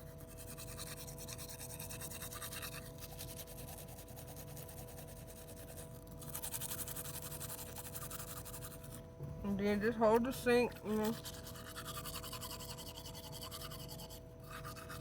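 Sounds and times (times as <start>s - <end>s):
toothbrush scrubbing teeth: 0.0s - 9.0s, 10.0s - 15.0s.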